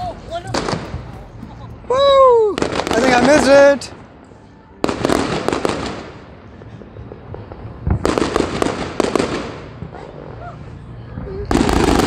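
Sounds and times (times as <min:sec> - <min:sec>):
fireworks crackling pops: 0:00.0 - 0:04.0, 0:04.8 - 0:10.5, 0:11.2 - 0:12.0.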